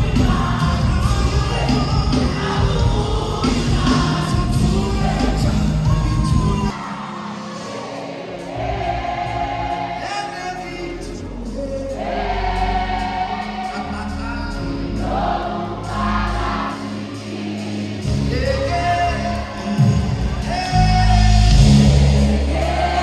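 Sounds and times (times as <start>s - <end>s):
bass and keyboard accompaniment: 0.0s - 23.0s
gospel choir singing: 0.0s - 23.0s.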